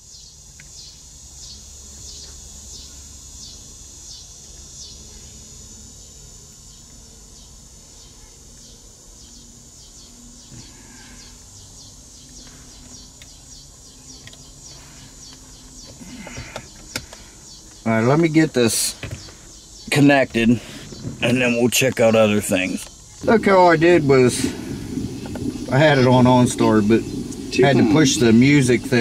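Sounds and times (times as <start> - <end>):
insects chirping: 0.0 - 29.0
steady low hum: 0.0 - 29.0.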